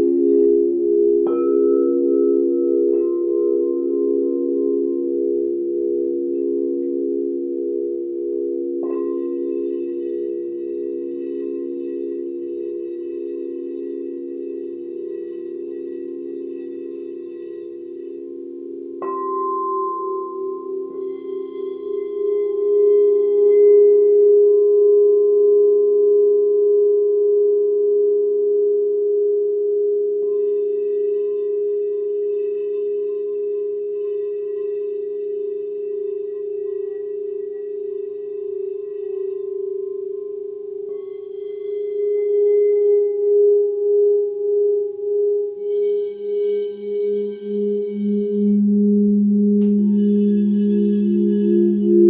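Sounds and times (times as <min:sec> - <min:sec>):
crystal singing bowls ringing: 0:00.0 - 0:52.0.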